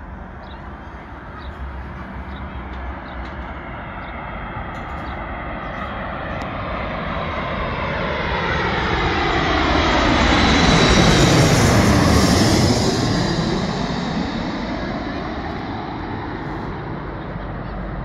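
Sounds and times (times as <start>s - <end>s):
jet airliner passing overhead: 0.0s - 18.0s.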